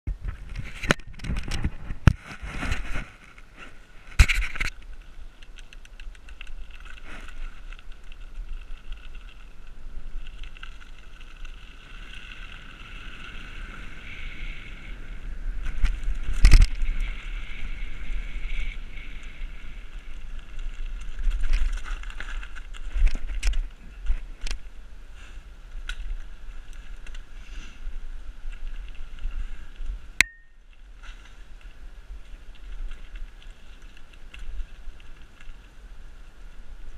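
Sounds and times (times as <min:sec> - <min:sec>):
bicycle tyres and frame rattling: 0:00.1 - 0:36.9.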